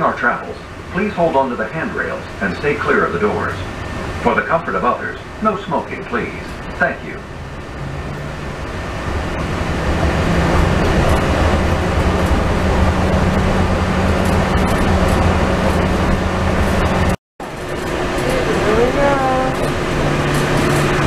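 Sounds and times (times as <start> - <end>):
monorail train hum and rumble: 0.0 - 21.0.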